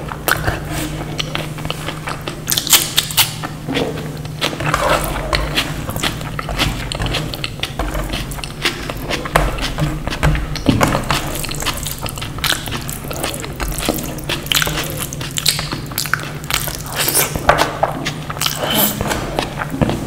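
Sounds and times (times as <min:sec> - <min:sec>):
steady low hum: 0:00.0 - 0:20.0
chewing with wet mouth clicks: 0:00.1 - 0:20.0.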